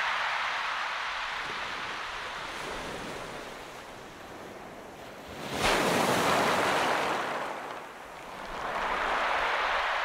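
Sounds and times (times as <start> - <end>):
sea waves washing on shore: 0.0 - 10.0.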